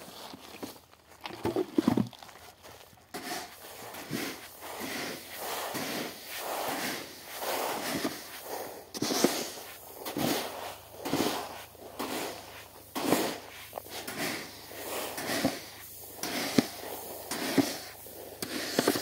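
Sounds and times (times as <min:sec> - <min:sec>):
hands swishing through seed: 0:03.2 - 0:19.0.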